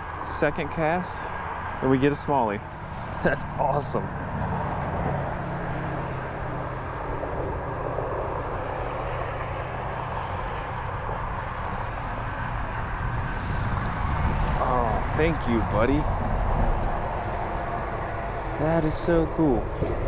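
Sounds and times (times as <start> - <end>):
highway traffic: 0.0 - 20.0.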